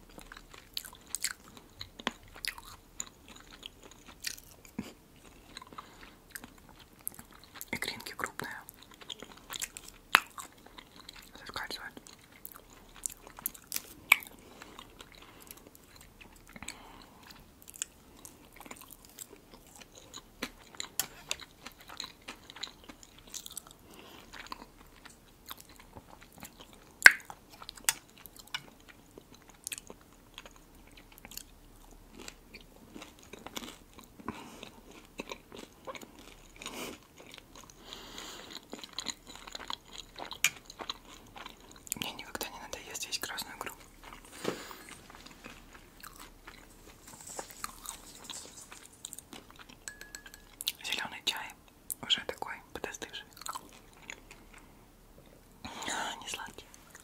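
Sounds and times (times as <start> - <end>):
chewing soft food: 0.0 - 57.0.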